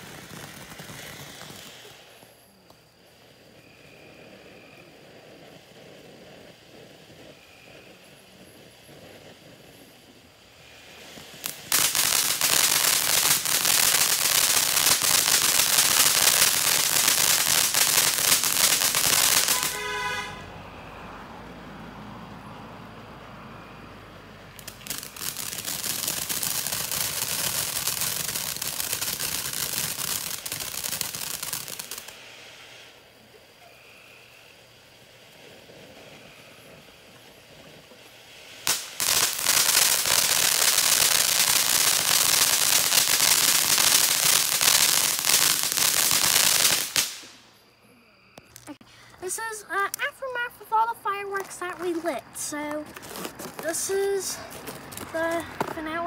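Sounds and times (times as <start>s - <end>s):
fireworks crackling: 0.0s - 21.0s, 23.6s - 47.8s, 48.4s - 56.0s
fireworks hissing: 0.0s - 21.2s, 24.4s - 56.0s.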